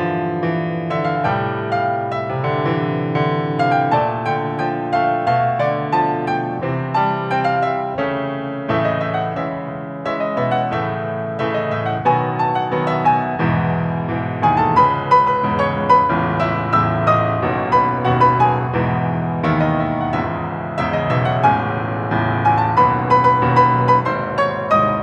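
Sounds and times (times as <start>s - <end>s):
grand piano playing: 0.0s - 25.0s.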